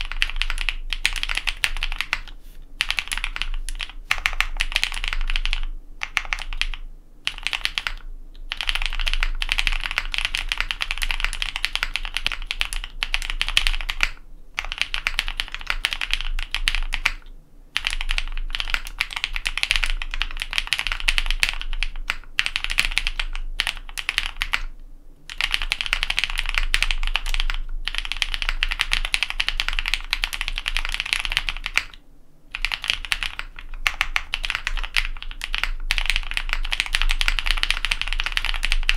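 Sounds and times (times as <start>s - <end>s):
mechanical keyboard typing: 0.0s - 17.2s, 17.8s - 24.7s, 25.3s - 38.9s.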